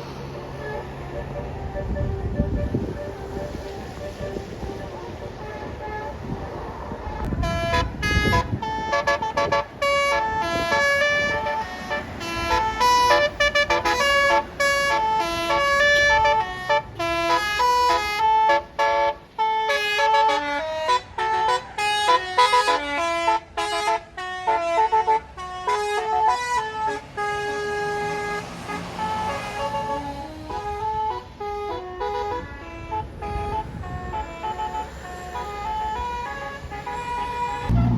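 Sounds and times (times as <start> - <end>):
bus horn playing a melody: 0.4 - 37.9.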